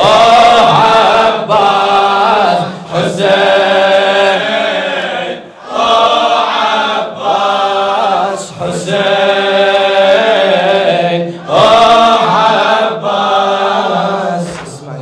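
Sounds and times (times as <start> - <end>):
voices chanting a lament: 0.0 - 15.0.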